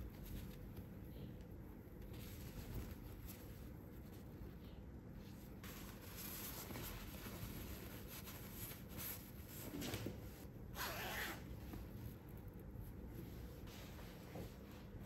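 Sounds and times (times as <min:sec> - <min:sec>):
fabric rustling: 0:01.8 - 0:15.0.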